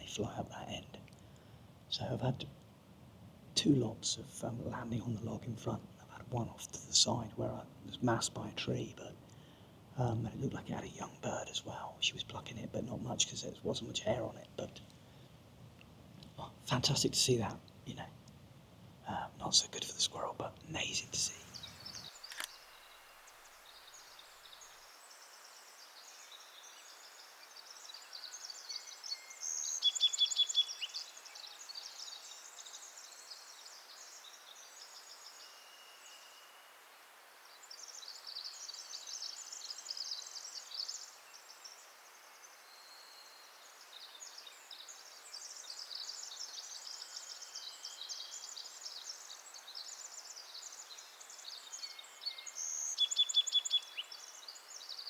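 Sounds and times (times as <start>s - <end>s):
small birds chirping: 0.0s - 2.6s, 3.6s - 18.4s, 19.0s - 36.6s, 37.4s - 55.0s.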